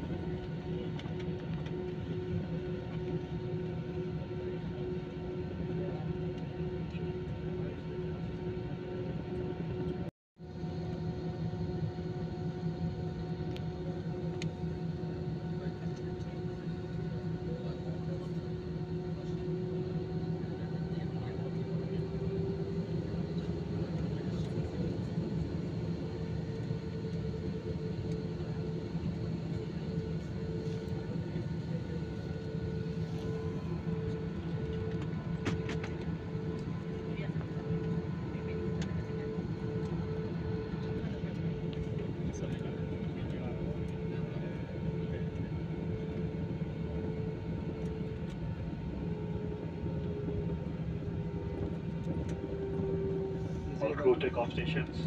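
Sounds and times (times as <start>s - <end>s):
constant humming tone: 0.0s - 55.0s
jet engines droning in cabin: 0.0s - 55.0s.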